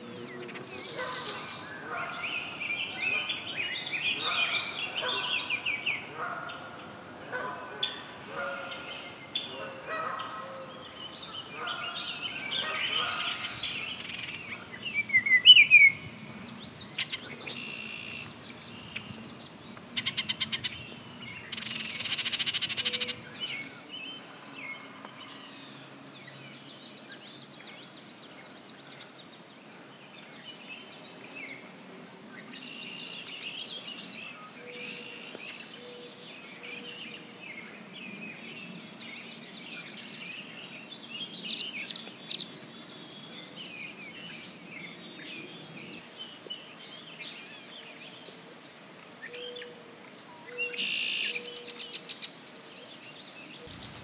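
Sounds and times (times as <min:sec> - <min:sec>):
songbirds singing and calling: 0:00.0 - 0:54.0.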